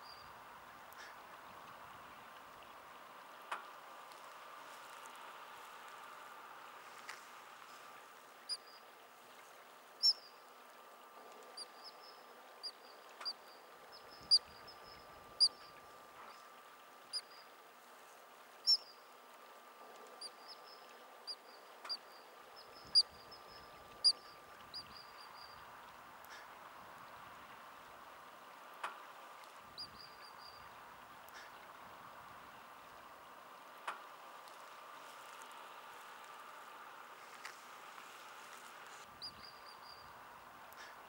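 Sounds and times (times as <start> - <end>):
faint background hiss: 0.0 - 41.0.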